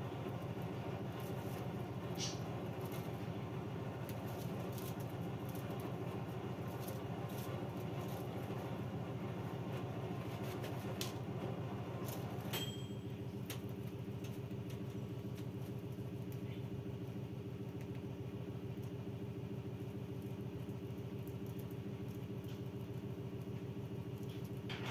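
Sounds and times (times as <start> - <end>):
low machine hum: 0.0 - 24.9.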